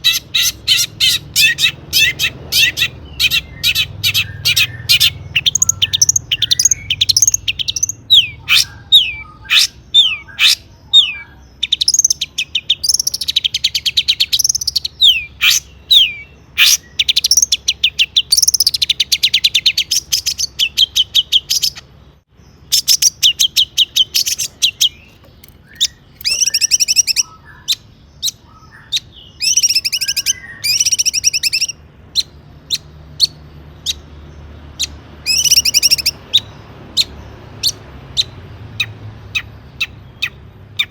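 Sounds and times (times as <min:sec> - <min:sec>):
shrike singing: 0:00.0 - 0:40.9.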